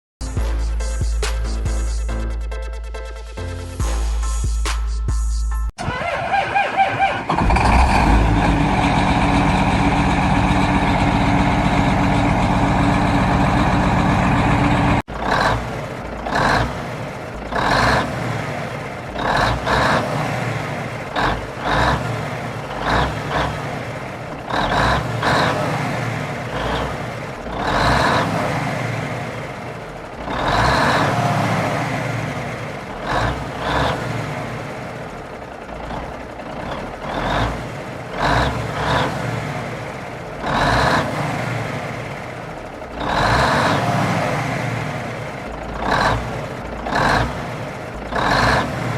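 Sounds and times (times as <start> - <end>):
diesel truck engine running: 5.8 - 48.9
engine surges: 5.8 - 48.9.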